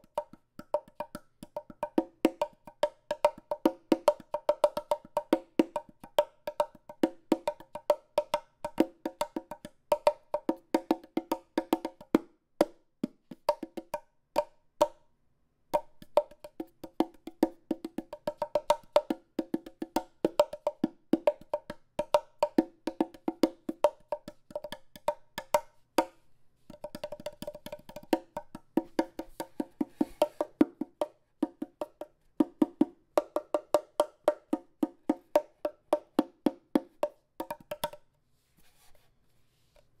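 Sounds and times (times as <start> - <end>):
hand drum slaps: 0.0 - 15.0, 15.8 - 38.0.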